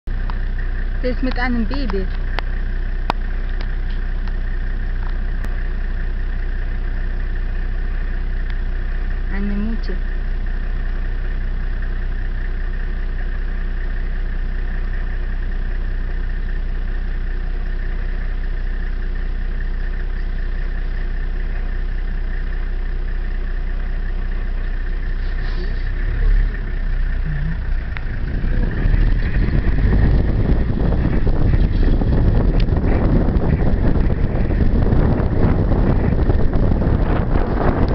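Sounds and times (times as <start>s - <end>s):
engine idling hum: 0.0s - 37.9s
rough rumble: 0.0s - 37.9s.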